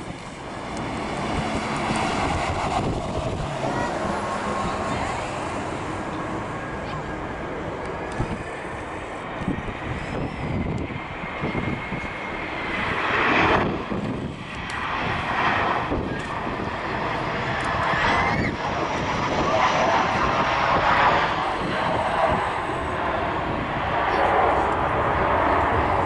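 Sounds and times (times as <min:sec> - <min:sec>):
jet engines passing: 0:00.0 - 0:26.0
wind buffeting microphone: 0:00.0 - 0:26.0.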